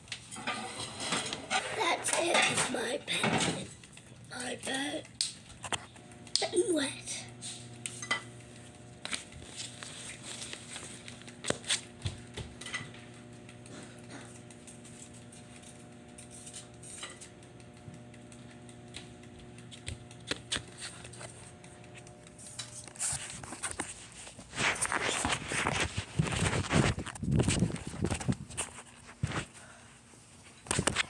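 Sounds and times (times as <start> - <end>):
steady low hum: 0.0 - 30.5.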